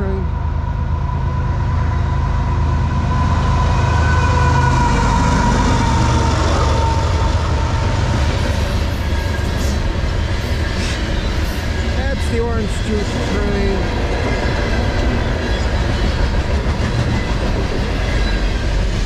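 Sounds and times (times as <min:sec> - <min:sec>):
diesel locomotive engine rumble: 0:00.0 - 0:19.0
boxcars rolling on rails: 0:01.2 - 0:19.0.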